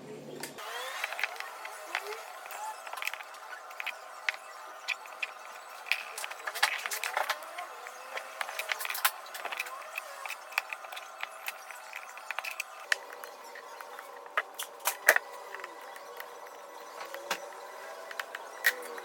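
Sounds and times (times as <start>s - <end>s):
small tools clicking and tapping: 1.0s - 19.0s.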